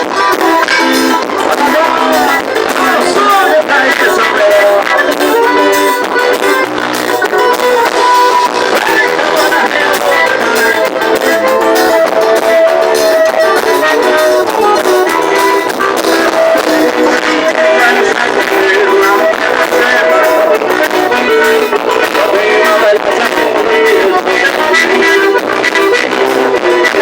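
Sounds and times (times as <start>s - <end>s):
folk dance music with steady beat: 0.0s - 27.0s.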